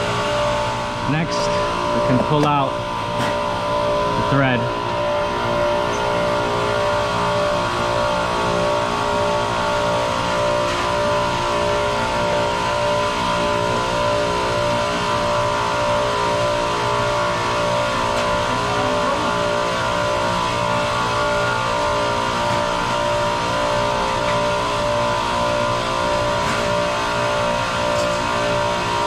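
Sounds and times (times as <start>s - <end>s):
machinery drone: 0.0s - 29.0s.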